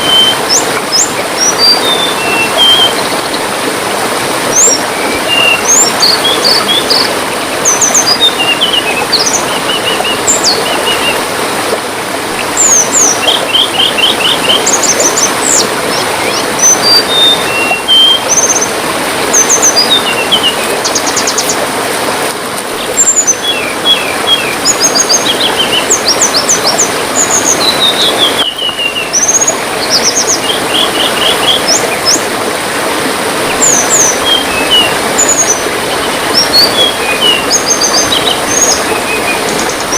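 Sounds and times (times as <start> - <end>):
small songbirds chirping and trilling: 0.0 - 3.6, 4.5 - 11.3, 12.4 - 21.6, 22.8 - 32.3, 33.5 - 39.9
running water trickling: 0.0 - 39.9.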